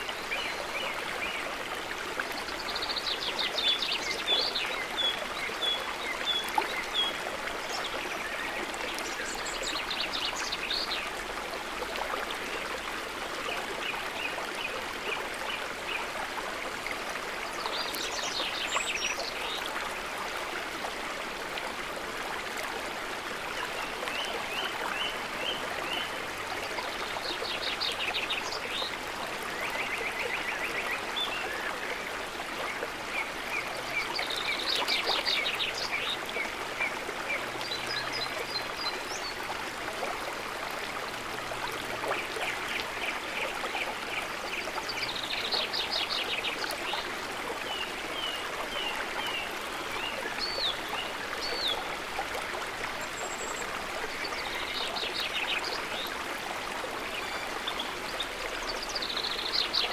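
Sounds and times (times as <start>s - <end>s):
river running: 0.0s - 59.9s.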